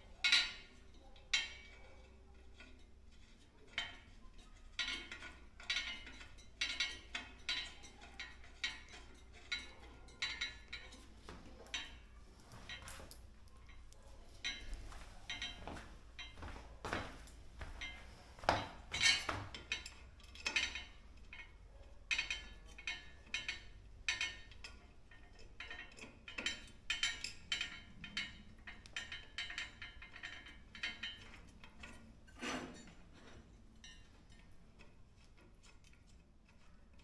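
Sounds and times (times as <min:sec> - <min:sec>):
metal fasteners clicking and clinking: 0:00.0 - 0:37.0.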